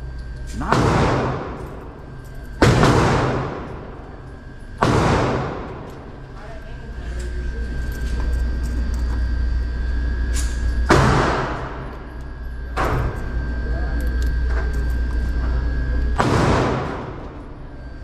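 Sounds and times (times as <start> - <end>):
steady low hum: 0.0 - 18.0
gunshots echoing indoors: 0.1 - 9.0, 10.3 - 14.4, 15.8 - 18.0.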